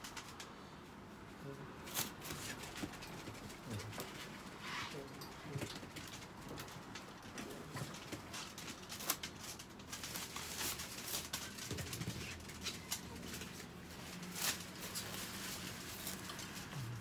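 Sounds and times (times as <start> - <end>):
dogs moving in wire crates: 1.8 - 17.0.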